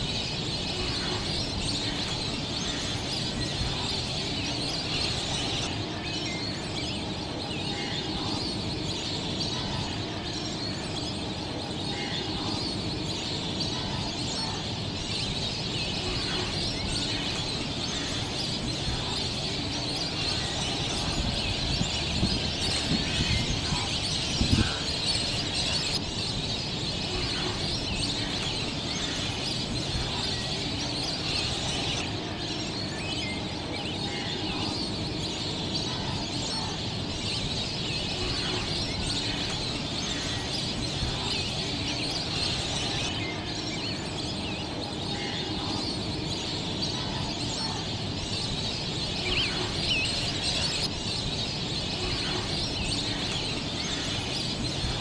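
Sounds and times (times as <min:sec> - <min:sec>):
birds chirping: 0:00.0 - 0:55.0
steady background hiss: 0:00.0 - 0:55.0.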